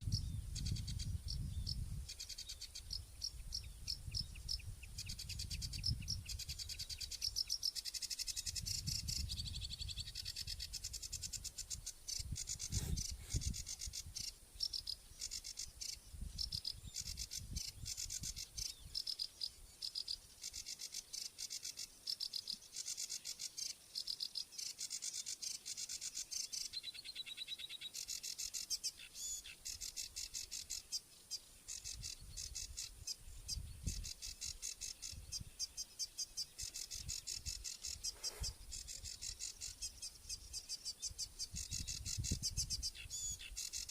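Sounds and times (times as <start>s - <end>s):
bird calls: 0.0s - 43.9s
crickets chirping: 0.1s - 26.8s, 27.9s - 43.9s.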